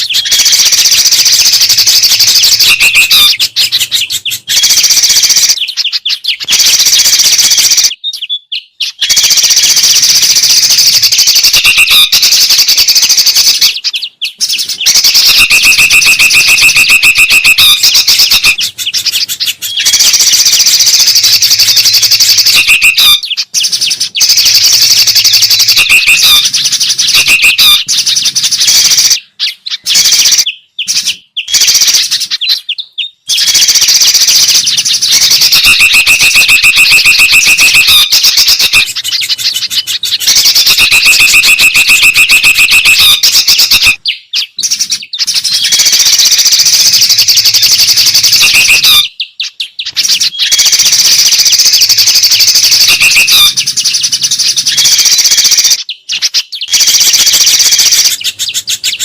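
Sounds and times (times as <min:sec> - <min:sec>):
rapid bird trill: 0:00.0 - 0:59.0
songbird chirps and calls: 0:00.0 - 0:59.0.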